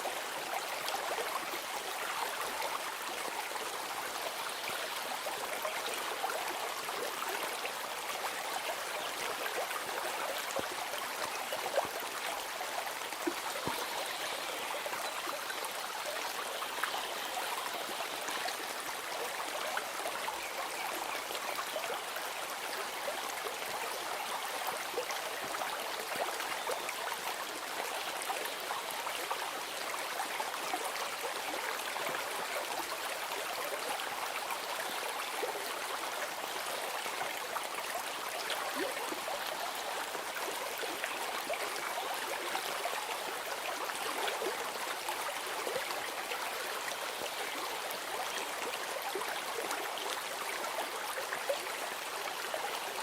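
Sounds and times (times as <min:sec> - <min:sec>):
stream babbling and trickling: 0:00.0 - 0:53.0.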